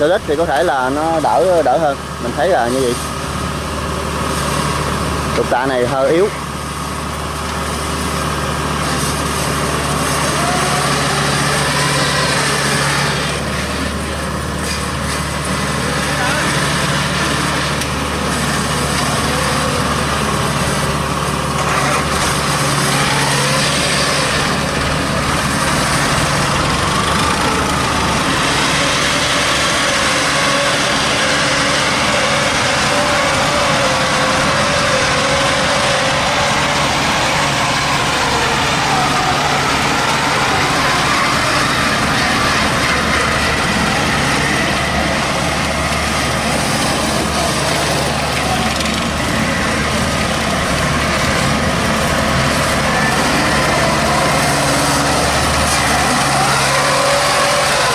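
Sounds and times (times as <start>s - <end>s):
engine whine wavering in pitch: 0.0s - 57.9s
harvester engine running: 0.0s - 57.9s.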